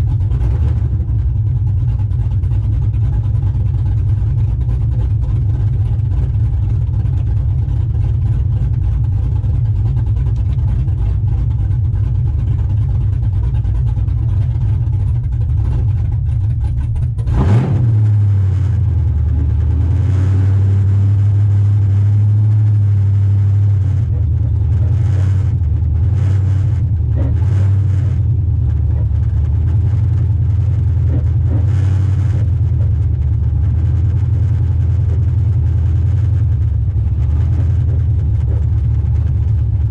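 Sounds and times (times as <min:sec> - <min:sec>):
engine exhaust note: 0:00.0 - 0:39.9.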